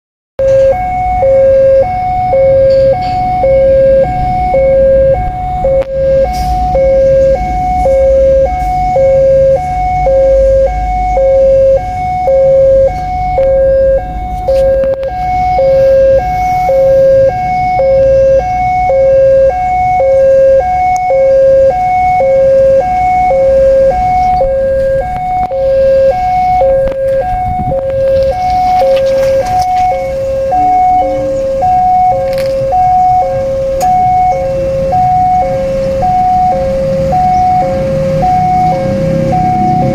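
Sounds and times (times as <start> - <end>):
low rumble: 0.4 - 19.5, 22.2 - 39.9
level crossing two-tone alarm: 0.4 - 39.9.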